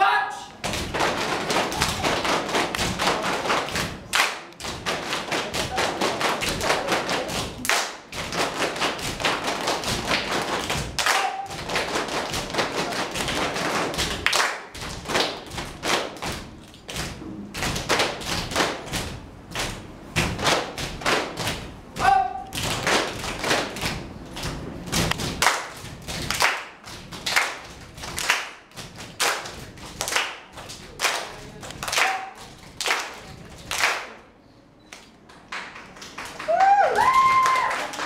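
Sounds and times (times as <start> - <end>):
hand claps: 0.7 - 21.7, 22.4 - 34.2.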